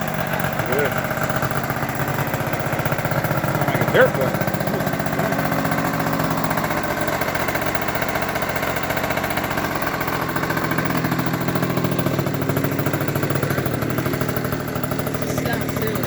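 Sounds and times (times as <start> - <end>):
small motorbike engine idling: 0.0 - 16.0.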